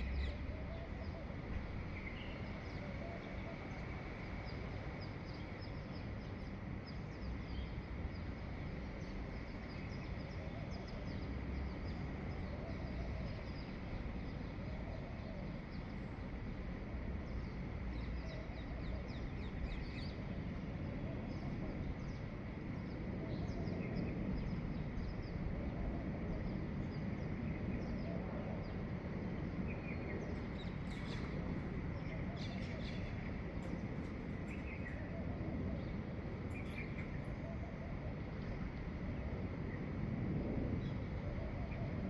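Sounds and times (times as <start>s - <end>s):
low background noise: 0.0s - 42.0s.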